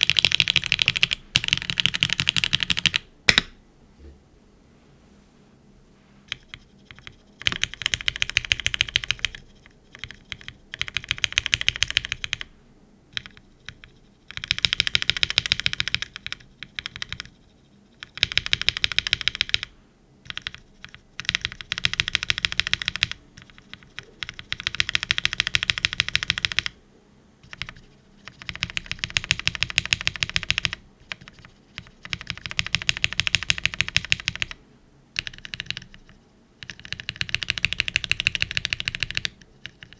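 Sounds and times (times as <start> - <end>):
mechanical keyboard typing: 0.0 - 3.5, 6.3 - 12.5, 13.1 - 17.4, 18.0 - 26.8, 27.4 - 34.6, 35.2 - 39.9.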